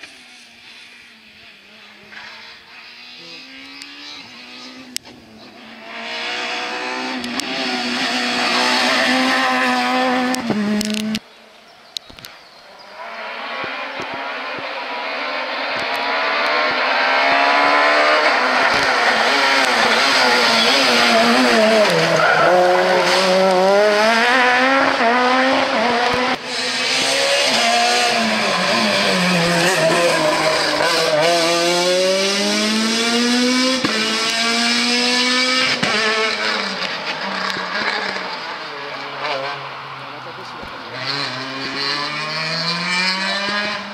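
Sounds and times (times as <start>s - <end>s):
rally car engine at full throttle: 0.0s - 11.2s, 11.9s - 43.9s.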